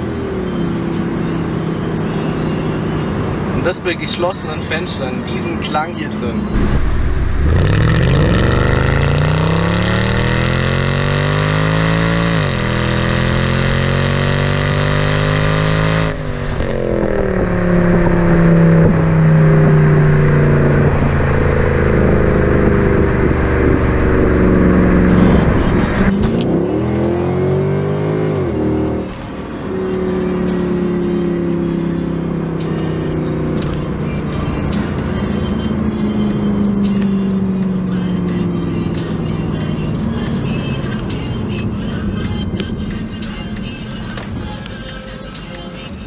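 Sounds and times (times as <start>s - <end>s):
car engine accelerating hard: 0.0s - 44.3s.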